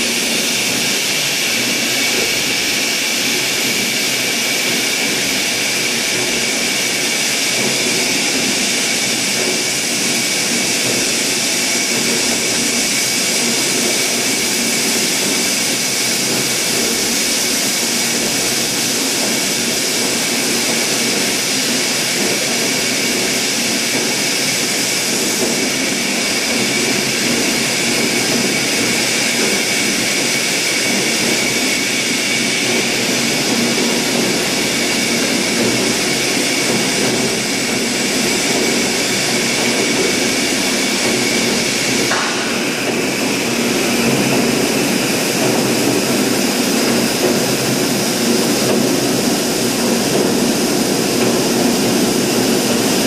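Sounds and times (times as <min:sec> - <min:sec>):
machine drone and hiss: 0:00.0 - 0:53.0.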